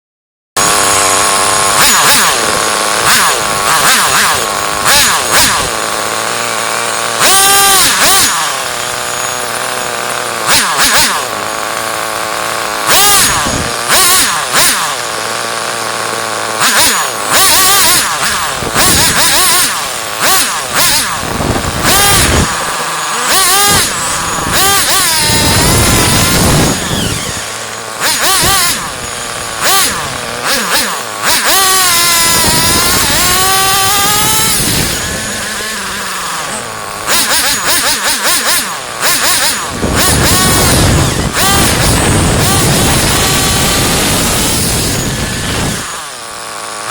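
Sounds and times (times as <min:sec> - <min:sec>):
small two-stroke engine revving: 0:00.6 - 0:46.9.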